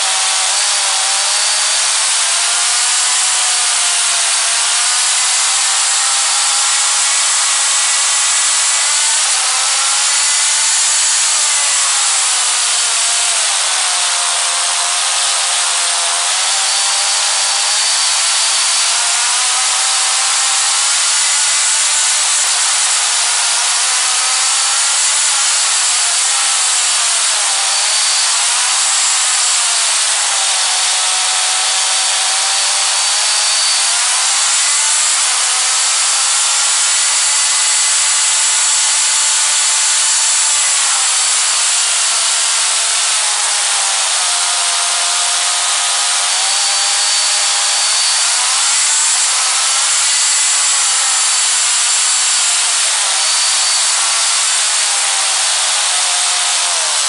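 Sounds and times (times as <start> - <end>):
small gas engine buzzing: 0.0 - 57.0.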